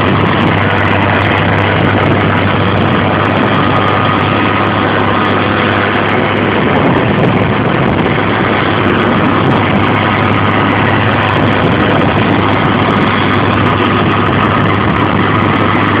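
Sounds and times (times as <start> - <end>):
constant low hum: 0.0 - 16.0
heavy machinery engine: 0.0 - 16.0.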